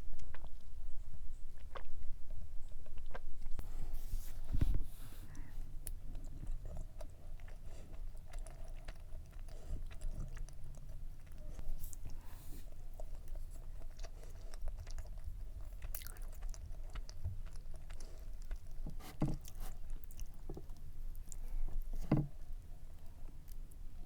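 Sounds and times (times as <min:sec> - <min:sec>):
chewing soft cake: 0:00.0 - 0:24.0.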